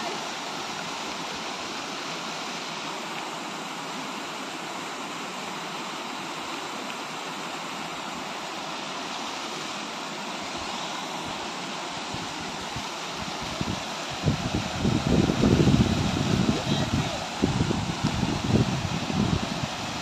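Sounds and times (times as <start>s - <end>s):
waterfalls rushing over rock: 0.0s - 20.0s.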